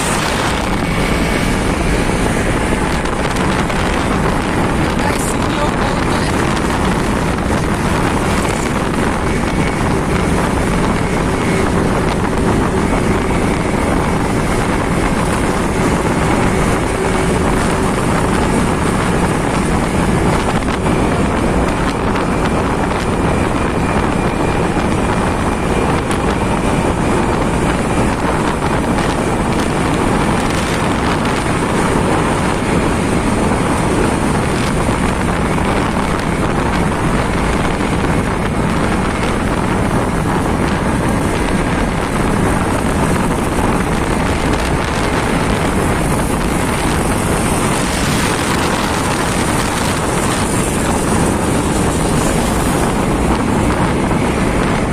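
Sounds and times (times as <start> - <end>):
motorcycle engine: 0.0 - 54.9
tyres on road: 0.0 - 54.9
wind noise on microphone: 0.0 - 54.9.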